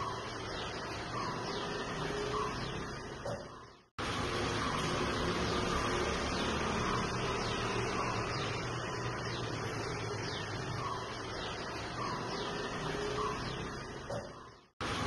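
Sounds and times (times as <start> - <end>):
faint bird chirps: 0.0 - 3.9, 5.5 - 14.7.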